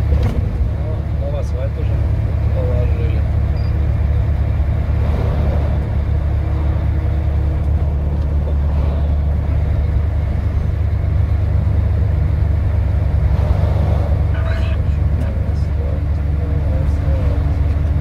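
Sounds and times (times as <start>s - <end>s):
heavy vehicle engine rumble: 0.0s - 18.0s
road noise: 0.0s - 18.0s.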